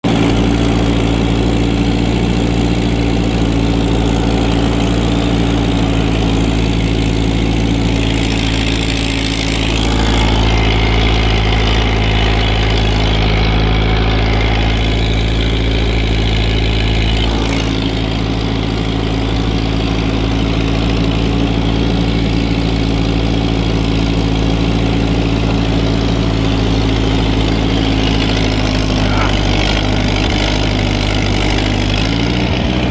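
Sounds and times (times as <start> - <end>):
tractor engine running under load: 0.0 - 32.9.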